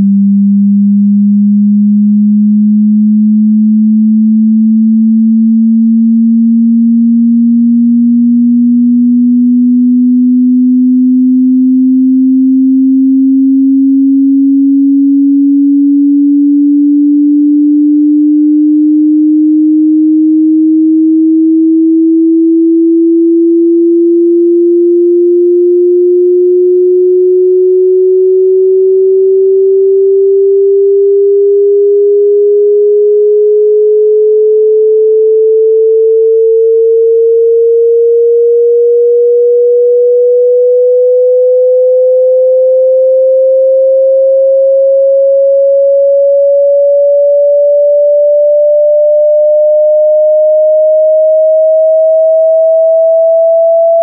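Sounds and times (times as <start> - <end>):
rising sine tone sweep: 0.0 - 54.0.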